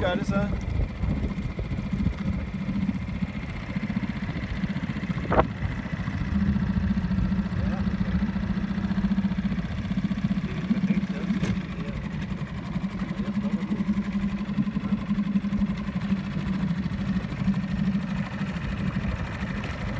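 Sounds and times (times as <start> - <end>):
small boat motor humming: 0.0 - 19.9.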